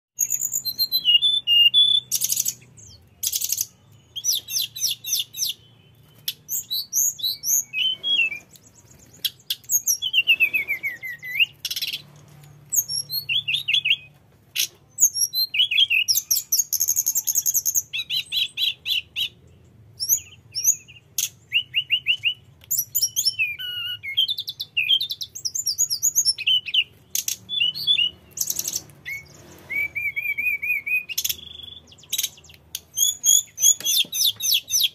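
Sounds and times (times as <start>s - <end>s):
flycatcher singing: 0.2s - 34.9s.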